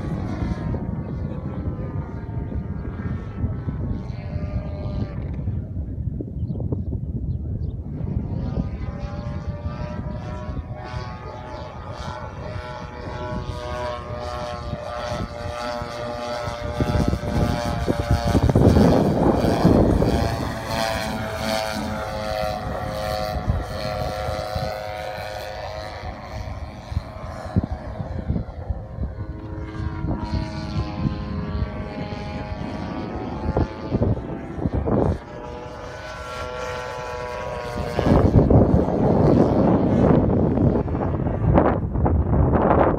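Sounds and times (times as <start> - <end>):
model plane engine buzzing: 0.0 - 42.9
wind buffeting microphone: 0.0 - 42.9.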